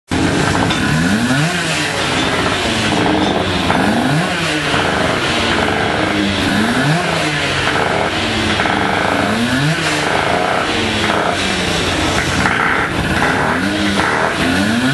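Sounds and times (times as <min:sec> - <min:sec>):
motorcycle engine revving: 0:00.1 - 0:14.9.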